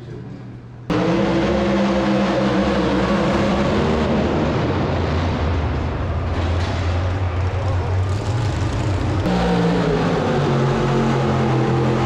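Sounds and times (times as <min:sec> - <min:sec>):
crowd noise: 0:00.0 - 0:12.0
truck engine running hard: 0:00.9 - 0:12.0.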